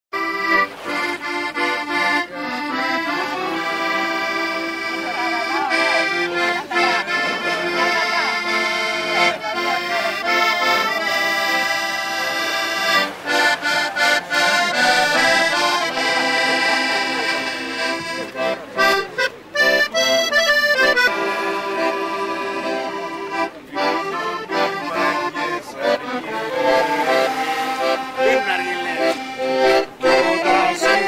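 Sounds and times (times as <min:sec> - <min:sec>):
accordion playing: 0:00.1 - 0:31.0.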